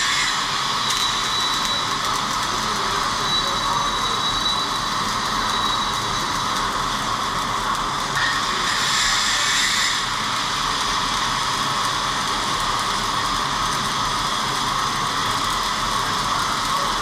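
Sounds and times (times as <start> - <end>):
arc welding hiss: 0.0 - 17.0.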